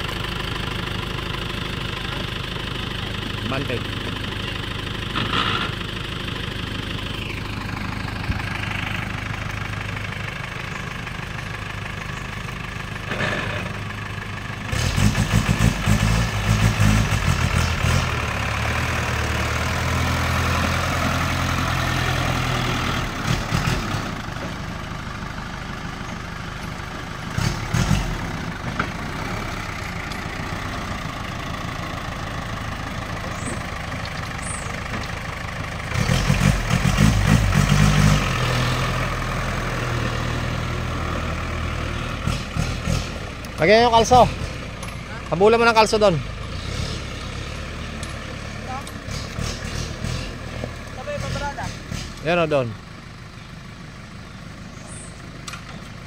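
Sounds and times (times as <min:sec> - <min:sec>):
diesel truck engine: 0:00.0 - 0:56.0
engine clattering: 0:00.0 - 0:56.0.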